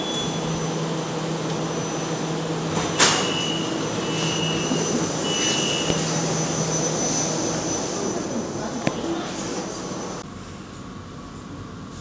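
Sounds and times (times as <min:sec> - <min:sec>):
train rushing noise: 0:00.0 - 0:10.2.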